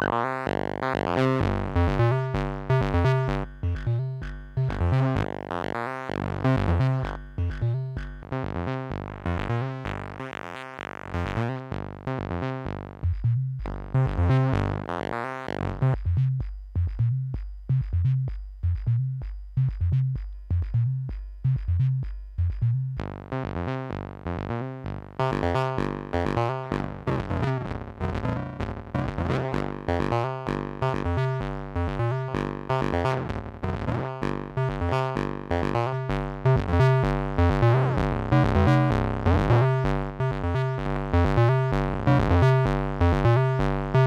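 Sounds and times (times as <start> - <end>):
synth bass sequence: 0.0 - 44.0.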